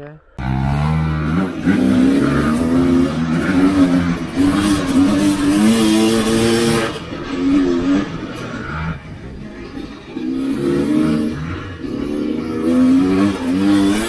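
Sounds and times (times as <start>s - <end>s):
dirt bike engine revving: 0.4s - 14.0s.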